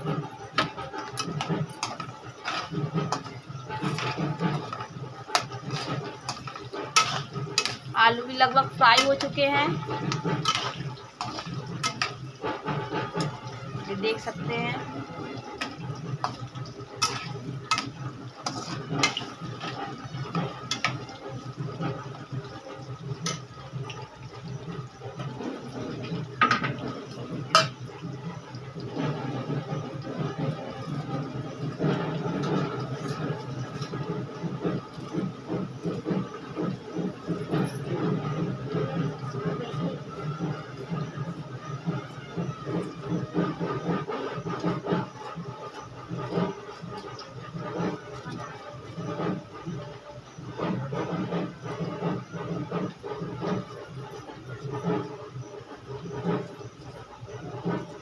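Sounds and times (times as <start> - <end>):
potatoes sizzling in oil: 0.0 - 58.0.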